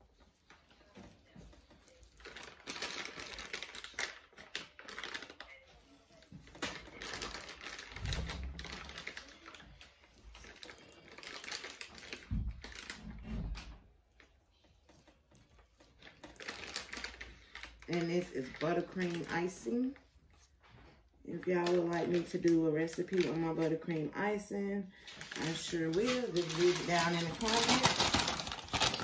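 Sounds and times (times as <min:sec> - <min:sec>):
plastic bag crinkling: 0:00.0 - 0:13.7, 0:14.5 - 0:29.0.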